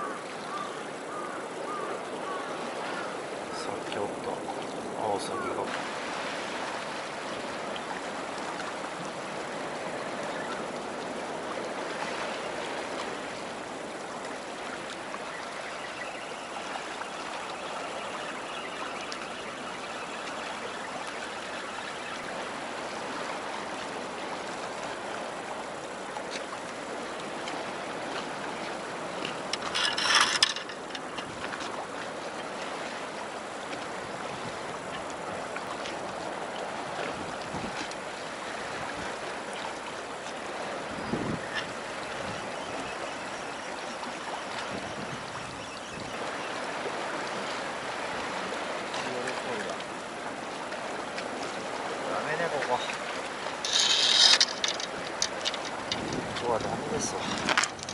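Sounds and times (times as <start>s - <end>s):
seawater lapping and trickling: 0.0s - 57.9s.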